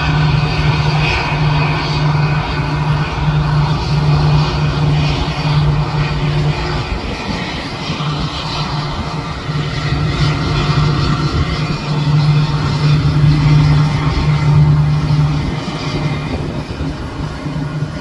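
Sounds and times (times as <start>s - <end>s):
jet engines rushing drone: 0.0s - 18.0s
low rumble: 0.0s - 18.0s.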